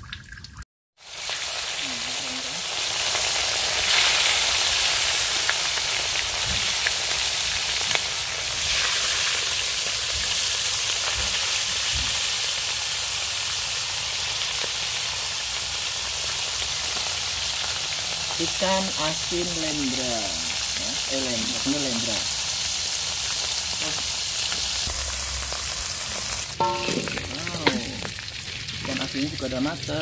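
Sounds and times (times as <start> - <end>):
fish sizzling in hot oil: 1.0 - 30.0.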